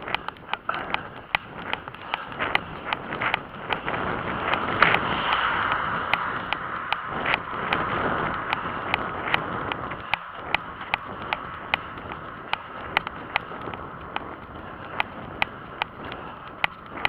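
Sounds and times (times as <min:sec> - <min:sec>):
car passing: 0:00.0 - 0:17.0
running footsteps on asphalt: 0:00.0 - 0:17.0
wind on microphone: 0:00.0 - 0:17.0.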